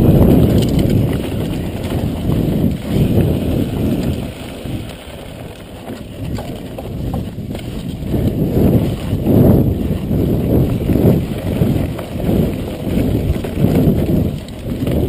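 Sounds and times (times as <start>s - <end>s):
bike tyre rumble and rattle: 0.0s - 15.0s
wind rushing over microphone: 0.0s - 15.0s.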